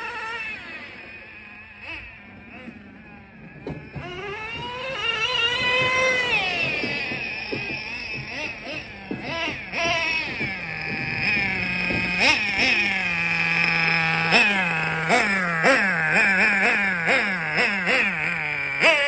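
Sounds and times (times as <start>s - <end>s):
model engine idling and revving: 0.0s - 19.0s.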